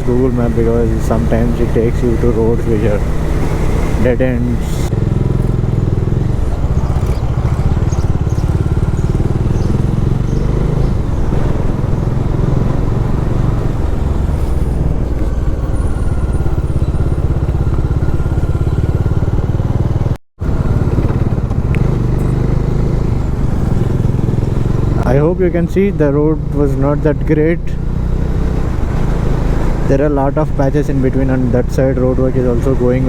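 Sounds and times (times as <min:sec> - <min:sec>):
motorcycle engine running: 0:00.0 - 0:33.0
road and wind noise: 0:00.0 - 0:33.0.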